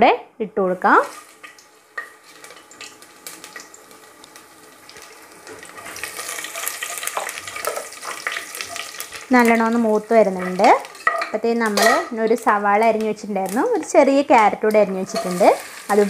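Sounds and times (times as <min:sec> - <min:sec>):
spices sizzling in oil: 0:00.7 - 0:16.0.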